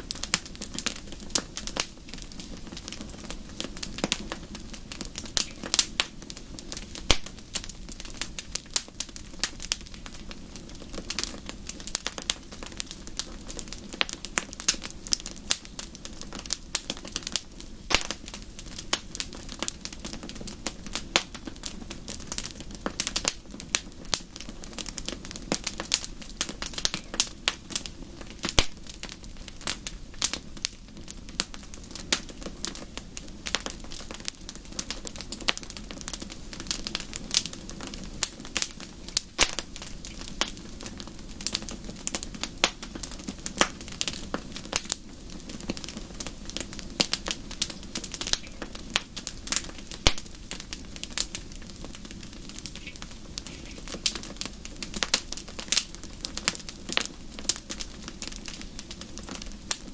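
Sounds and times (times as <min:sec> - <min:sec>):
low rush of flame: 0:00.0 - 0:59.9
wood fire crackling and popping: 0:00.0 - 0:59.9.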